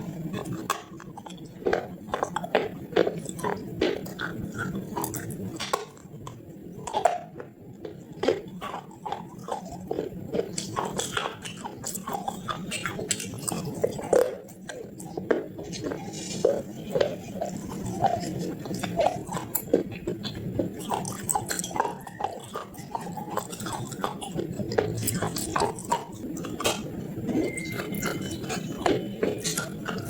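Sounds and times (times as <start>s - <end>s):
chewing clay crunches: 0.0s - 30.0s.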